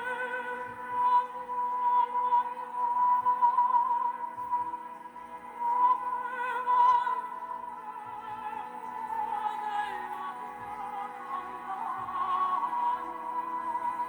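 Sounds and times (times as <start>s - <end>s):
operatic singing with vibrato: 0.0s - 14.0s.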